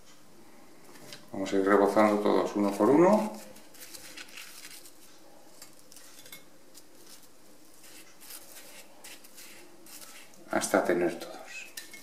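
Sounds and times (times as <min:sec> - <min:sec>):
food rolled through sugar on plate: 0:00.8 - 0:12.0.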